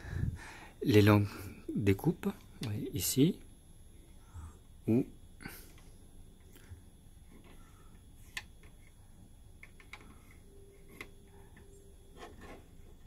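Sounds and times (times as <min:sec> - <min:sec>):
faint steady hum: 0:00.0 - 0:13.0
room hiss: 0:00.0 - 0:13.0.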